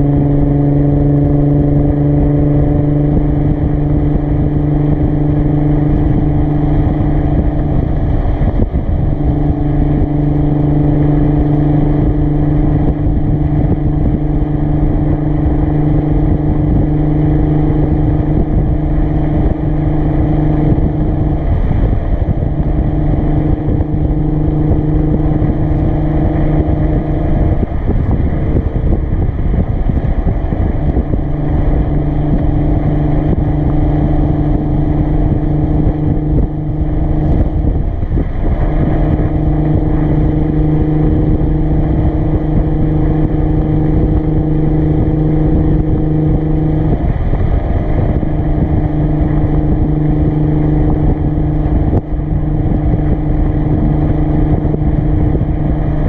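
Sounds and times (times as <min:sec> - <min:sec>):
car exhaust tone: 0:00.0 - 0:56.0
road and wind rush: 0:00.0 - 0:56.0.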